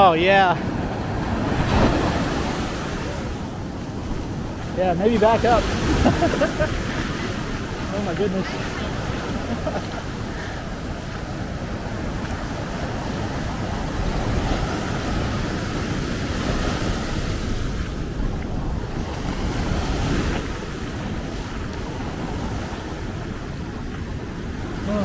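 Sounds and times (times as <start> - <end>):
ocean waves breaking: 0.0 - 25.0
wind noise on microphone: 0.7 - 24.9.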